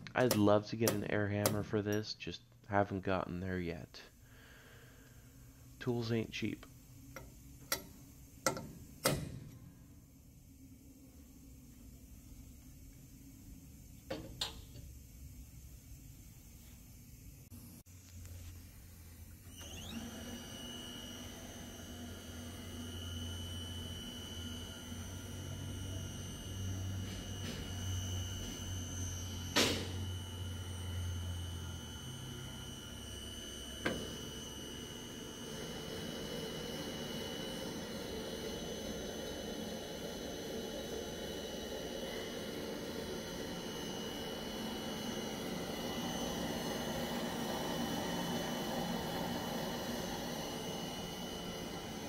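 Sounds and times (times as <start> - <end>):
machine humming with high whine: 0.0 - 52.0.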